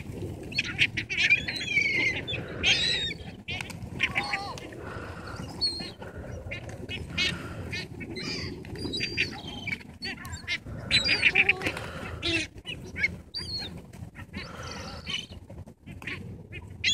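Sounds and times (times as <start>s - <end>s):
gulls calling: 0.0s - 16.9s.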